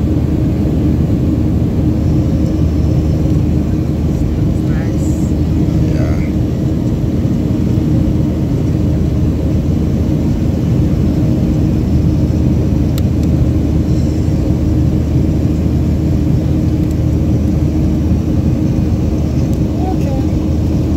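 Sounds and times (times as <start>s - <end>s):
jet airliner engine drone: 0.0s - 20.9s.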